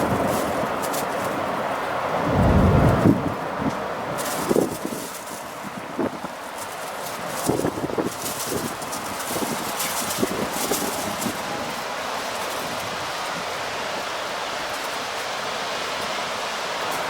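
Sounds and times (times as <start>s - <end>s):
strong wind blowing: 0.0s - 14.7s
rustling: 0.0s - 17.0s.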